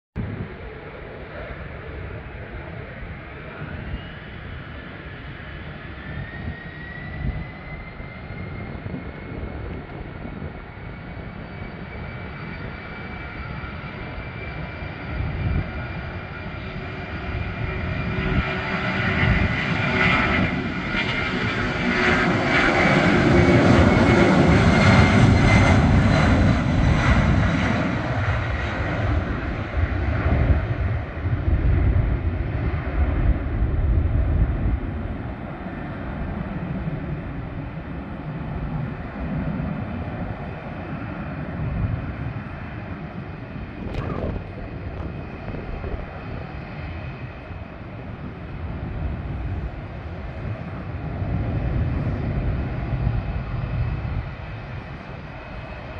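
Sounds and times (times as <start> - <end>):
jet engine whine: 0.2 - 55.9
jet noise of aircraft takeoff: 0.2 - 55.9.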